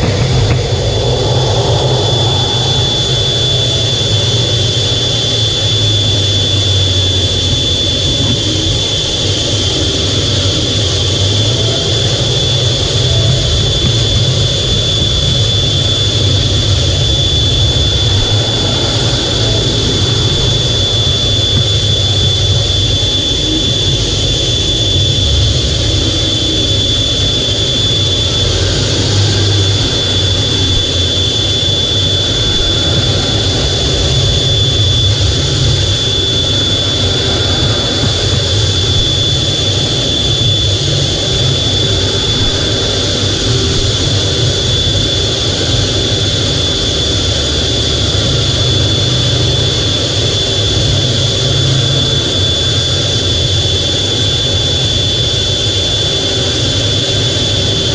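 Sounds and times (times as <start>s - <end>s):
high engine whine: 0.0s - 57.9s
jet engines rumbling: 0.0s - 57.9s.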